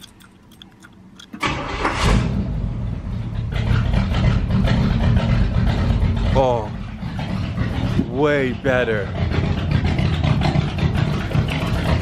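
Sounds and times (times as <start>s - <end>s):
car engine starting and running: 0.0s - 12.0s.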